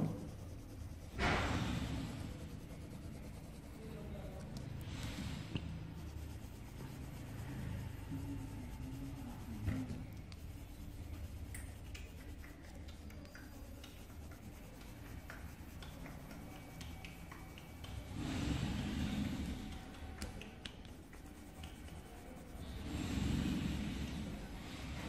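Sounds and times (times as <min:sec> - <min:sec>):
low steady hum: 0:00.0 - 0:25.0
pencil scratching on paper: 0:00.0 - 0:25.0.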